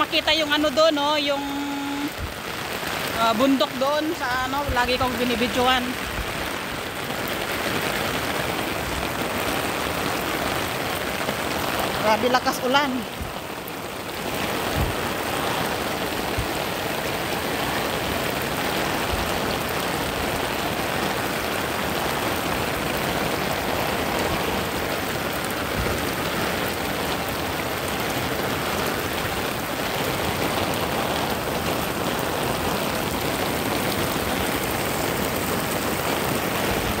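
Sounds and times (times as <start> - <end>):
heavy rain on street and umbrella: 0.0 - 37.0.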